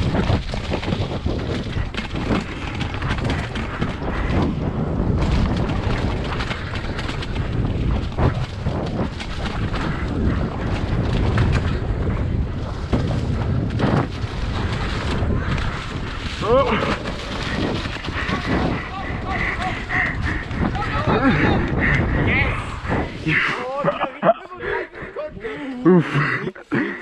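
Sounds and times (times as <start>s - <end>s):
bike knocking and rattling: 0.0s - 24.0s
wind rush: 0.0s - 25.7s.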